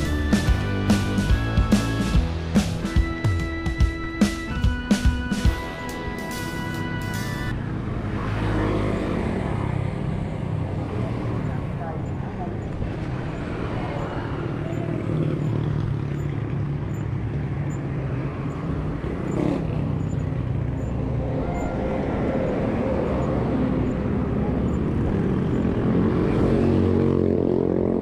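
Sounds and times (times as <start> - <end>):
vehicle engines running: 0.0 - 28.0.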